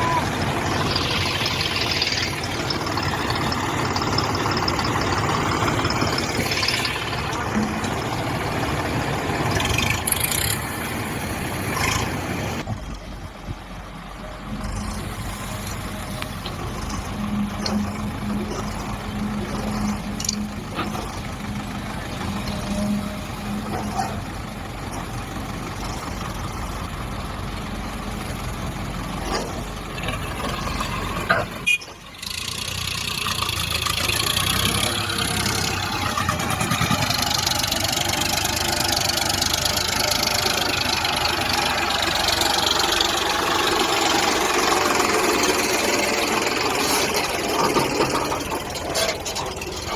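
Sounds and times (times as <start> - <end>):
diesel tractor engines under load: 0.0 - 49.9.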